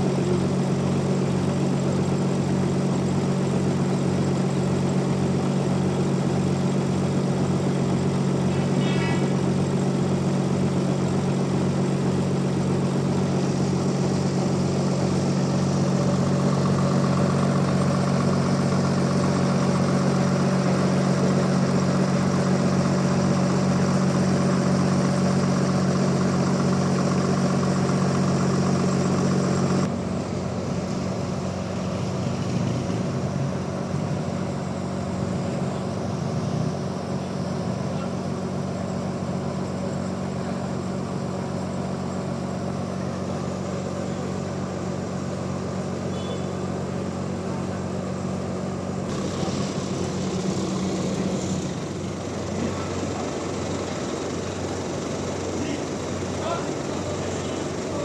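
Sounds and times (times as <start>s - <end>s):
sawmill machine hum: 0.0s - 58.0s.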